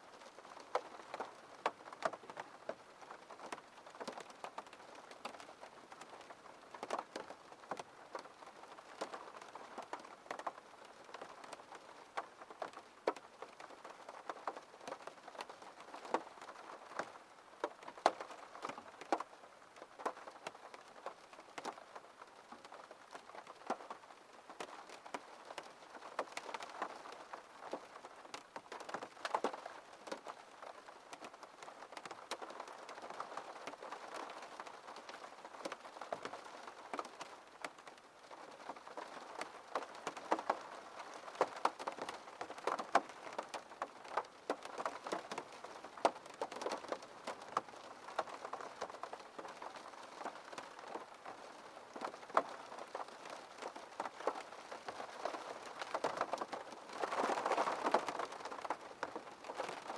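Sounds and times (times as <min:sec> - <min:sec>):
rain on a window pane: 0:00.0 - 0:59.9
raindrops ticking on glass: 0:00.1 - 0:59.9.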